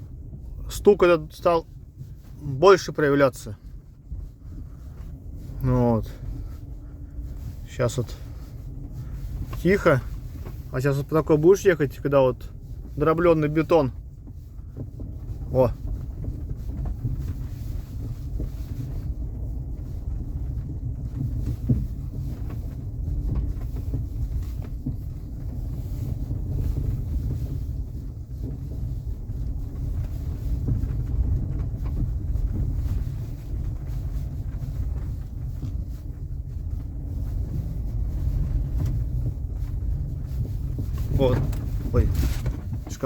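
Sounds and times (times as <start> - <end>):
tyre and suspension rumble: 0.0 - 43.0.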